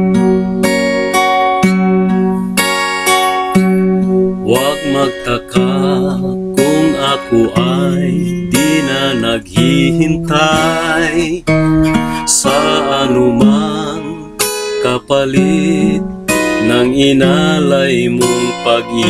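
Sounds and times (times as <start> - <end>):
acoustic guitar strummed and picked: 0.0 - 19.0
wordless wavering melody: 0.0 - 19.0.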